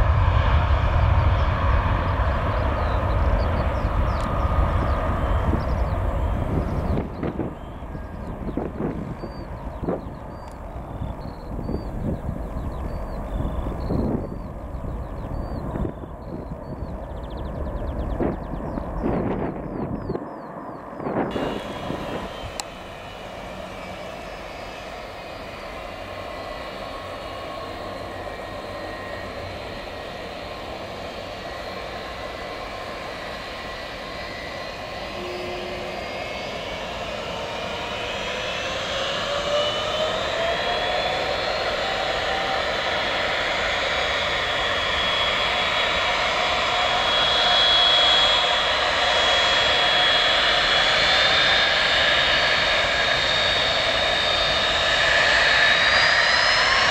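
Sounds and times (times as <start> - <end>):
jet engines whining: 0.0 - 56.9.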